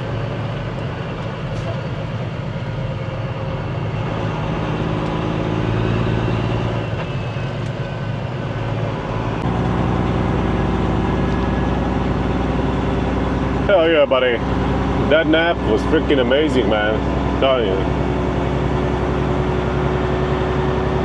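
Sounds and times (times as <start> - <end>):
diesel truck engine humming: 0.0 - 21.0.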